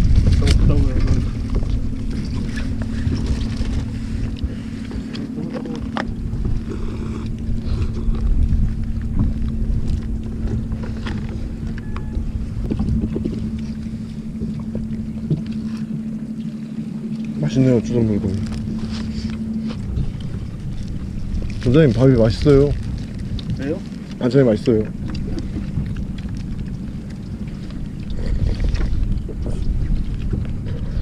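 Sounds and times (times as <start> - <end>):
boat engine humming: 0.0 - 31.0
wind buffeting microphone: 0.0 - 31.0.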